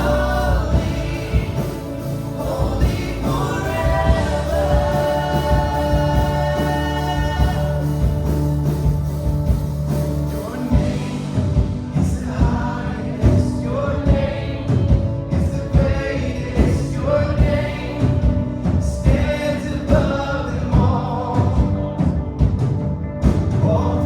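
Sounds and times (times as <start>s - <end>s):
steady drum beat: 0.0s - 24.0s
worship band with singers: 0.0s - 24.0s.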